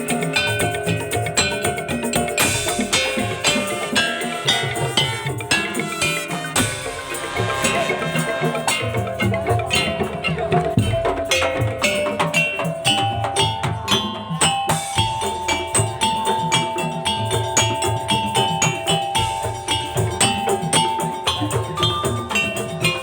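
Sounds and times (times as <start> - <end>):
percussion ensemble drumming: 0.0 - 23.0.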